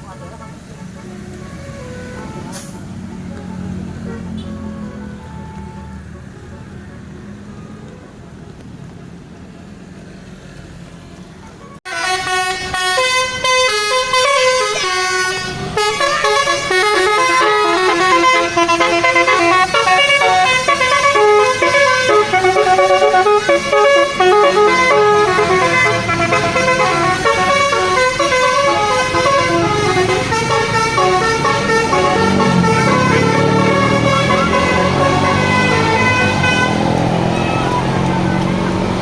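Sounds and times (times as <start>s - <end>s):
bus horn playing a tune: 0.3s - 8.2s, 11.8s - 39.0s.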